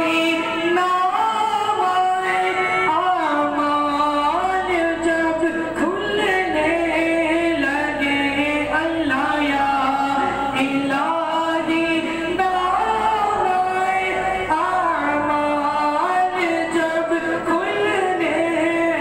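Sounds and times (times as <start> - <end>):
person singing unaccompanied recitation: 0.0 - 19.0.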